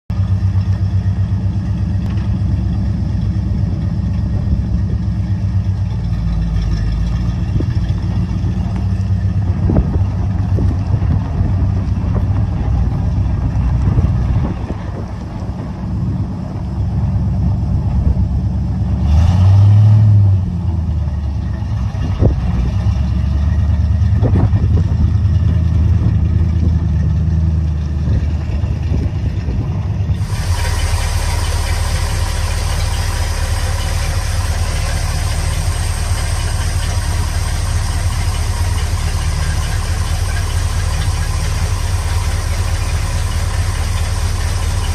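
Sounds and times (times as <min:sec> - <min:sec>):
truck engine idling: 0:00.1 - 0:19.1, 0:19.9 - 0:44.9.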